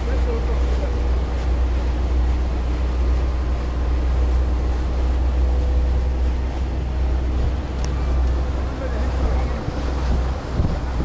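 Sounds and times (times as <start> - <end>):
boat engine droning: 0.0 - 11.0
rushing water: 0.0 - 11.0
wind: 0.0 - 11.0.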